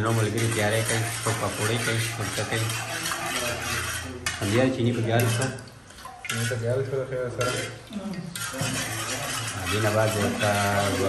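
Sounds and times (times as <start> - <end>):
spoon stirring water in pot: 0.0 - 11.0.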